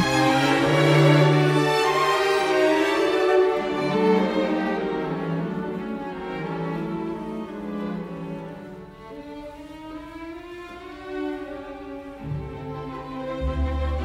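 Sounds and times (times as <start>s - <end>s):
violins and cellos holding notes: 0.0s - 14.0s.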